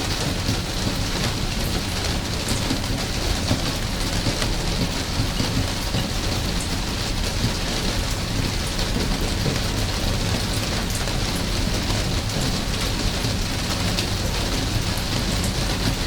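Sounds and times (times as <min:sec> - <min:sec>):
raindrops ticking: 0:00.0 - 0:16.0
steady rain falling: 0:00.0 - 0:16.0.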